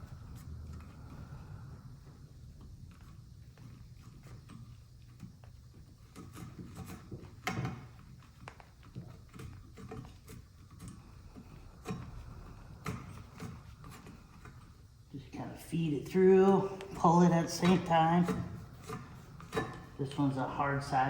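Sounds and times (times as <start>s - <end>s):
wiring rustling: 0.0s - 21.0s.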